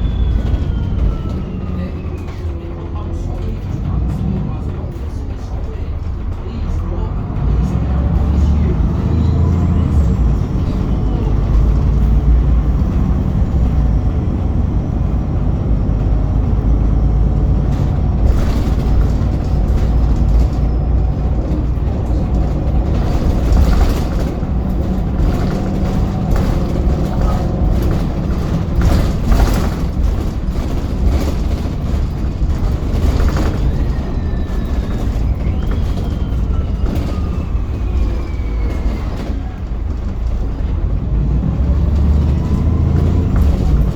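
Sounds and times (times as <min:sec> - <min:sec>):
bus drivetrain rumble: 0:00.0 - 0:43.9.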